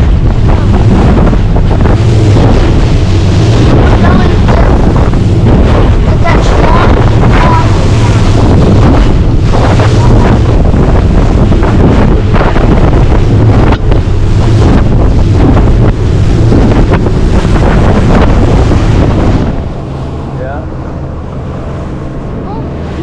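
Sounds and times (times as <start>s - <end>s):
boat engine hum: 0.0s - 23.0s
water splashing against hull: 0.0s - 23.0s
wind buffeting microphone: 0.0s - 23.0s.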